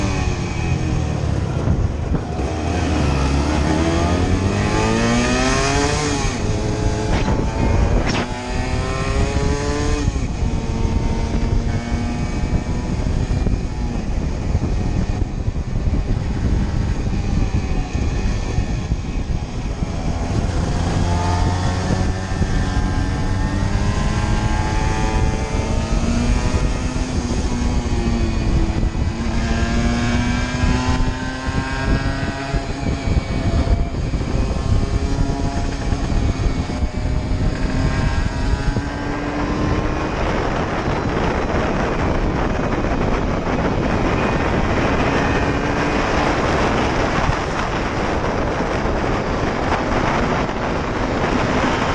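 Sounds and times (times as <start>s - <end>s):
wind noise on microphone: 0.0s - 51.9s.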